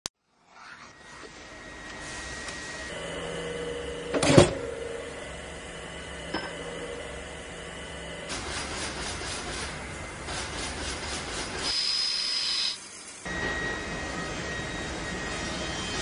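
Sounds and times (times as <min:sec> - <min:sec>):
factory machine humming: 0:00.3 - 0:16.0.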